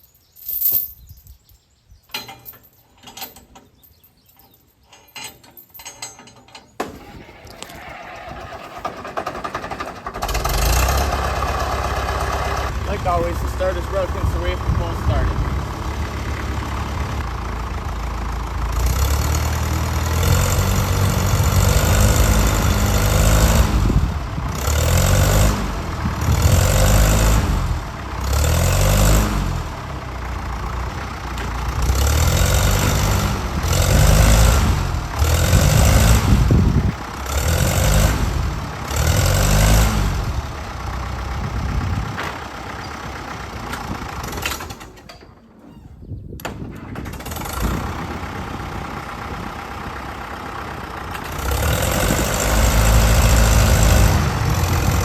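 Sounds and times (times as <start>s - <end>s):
tractor engine revving: 5.8s - 55.0s.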